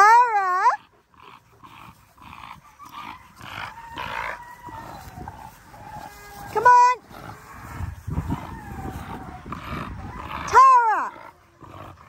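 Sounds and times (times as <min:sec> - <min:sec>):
dogs making rough vocal sounds: 0:00.0 - 0:12.0.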